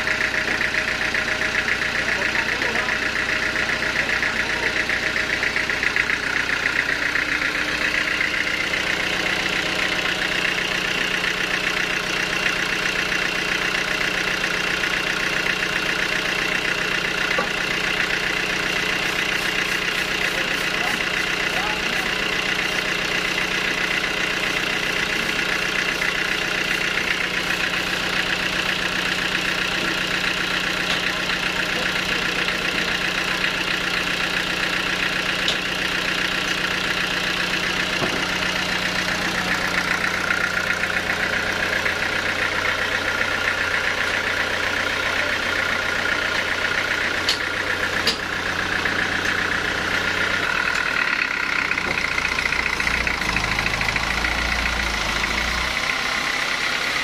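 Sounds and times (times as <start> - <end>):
stationary engine droning with whine: 0.0 - 57.0.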